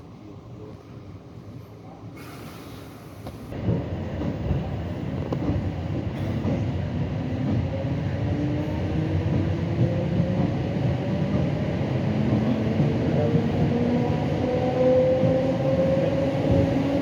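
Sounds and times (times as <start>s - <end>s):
train wheels rumbling on rails: 2.2s - 17.0s.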